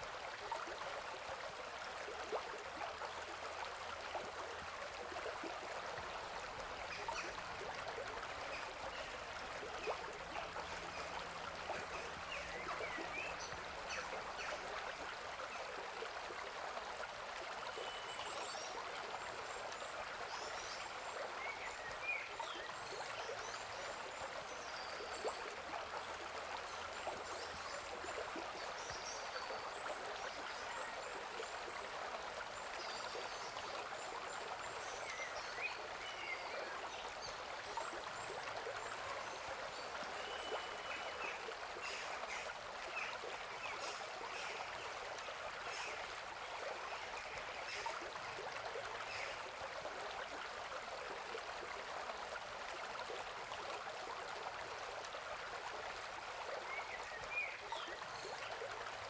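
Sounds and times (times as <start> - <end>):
stream and small waterfall rushing: 0.0 - 59.0.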